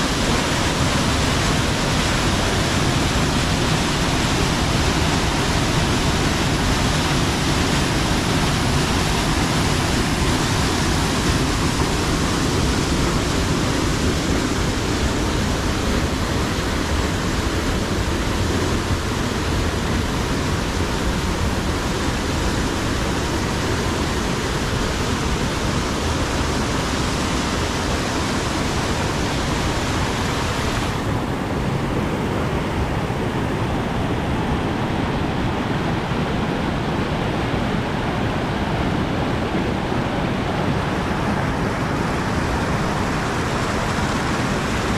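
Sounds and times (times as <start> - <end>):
floodwater rushing through rapids: 0.0 - 44.9.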